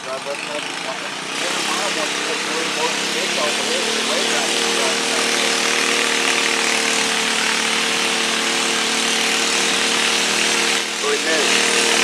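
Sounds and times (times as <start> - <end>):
tractor engine at high revs: 0.0 - 12.0.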